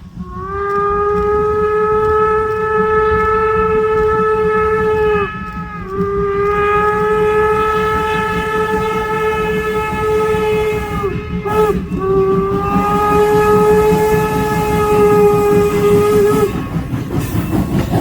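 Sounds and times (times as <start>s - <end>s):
low rumble of moving train: 0.0s - 18.0s
steam whistle blasts: 0.2s - 18.0s.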